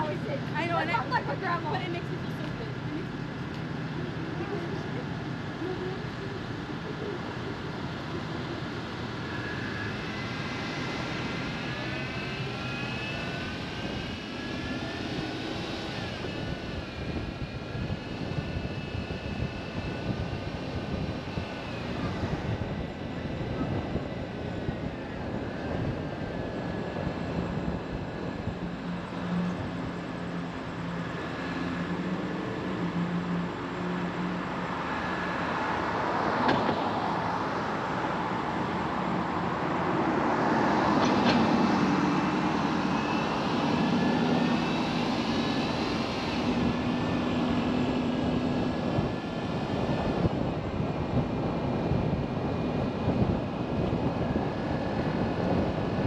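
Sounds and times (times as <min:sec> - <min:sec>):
high engine whine: 0:00.0 - 0:56.0
traffic and road noise: 0:00.0 - 0:56.0.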